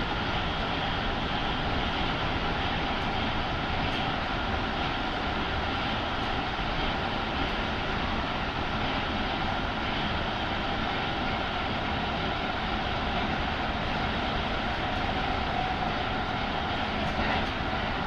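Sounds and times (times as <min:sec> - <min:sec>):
faint traction motor whine: 0:00.0 - 0:18.0
train wheels rolling on rails: 0:00.0 - 0:18.0.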